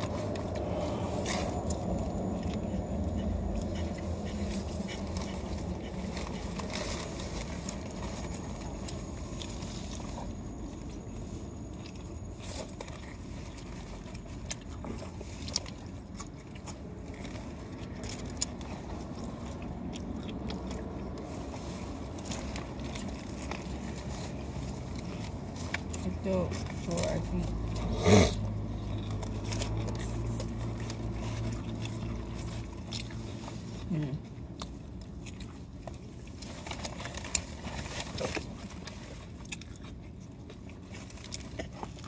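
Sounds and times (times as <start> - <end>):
biting and chewing: 0.0 - 42.0.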